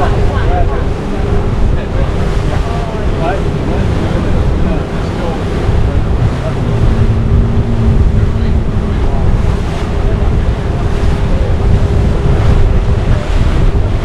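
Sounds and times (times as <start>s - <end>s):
faint engine hum: 0.0s - 14.0s
water rushing along hull: 0.0s - 14.0s
wind buffeting microphone: 0.0s - 14.0s.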